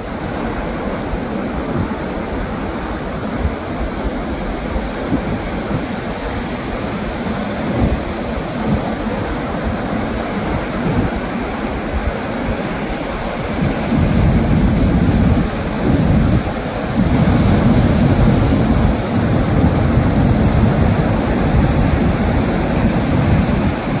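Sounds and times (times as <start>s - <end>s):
surf washing over rocks: 0.0s - 24.0s
wind rumbling on microphone: 0.0s - 24.0s.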